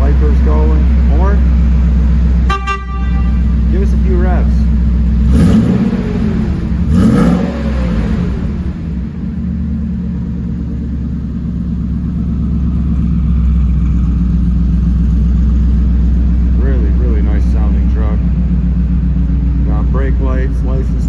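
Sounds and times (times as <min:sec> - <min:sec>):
engine revving and idling: 0:00.0 - 0:21.0.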